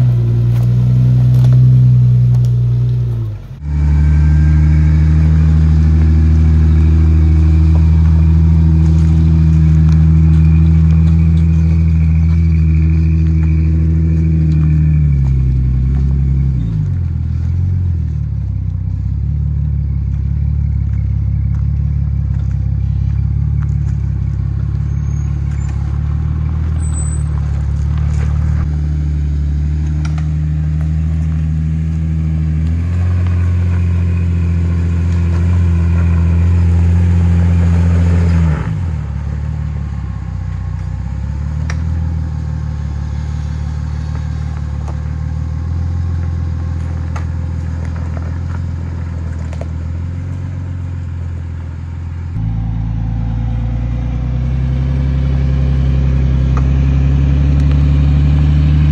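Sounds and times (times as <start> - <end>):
car engine under load: 0.0 - 58.9.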